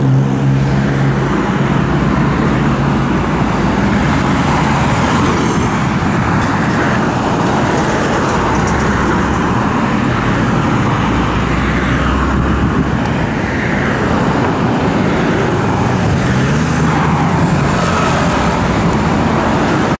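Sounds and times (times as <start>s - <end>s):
heavy road traffic: 0.0s - 20.0s.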